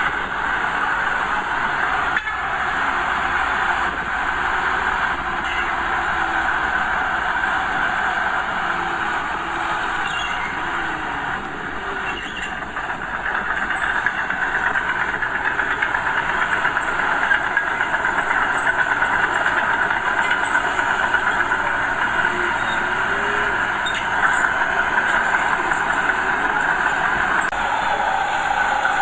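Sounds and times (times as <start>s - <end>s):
diesel earthmoving machinery running: 0.0s - 29.0s.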